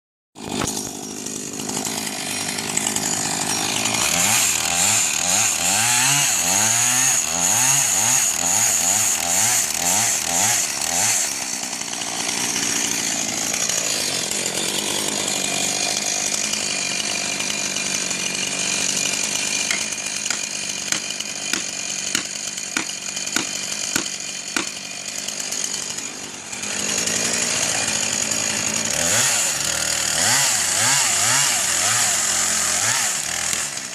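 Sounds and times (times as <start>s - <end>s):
chainsaw cutting a tree: 0.4s - 33.9s.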